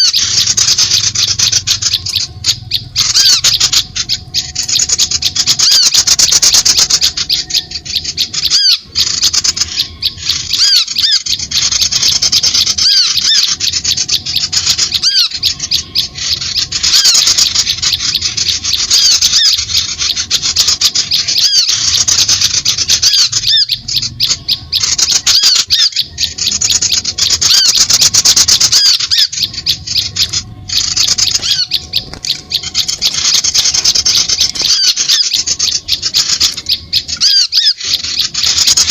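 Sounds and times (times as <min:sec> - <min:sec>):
small birds chirping and squawking: 0:00.0 - 0:38.9.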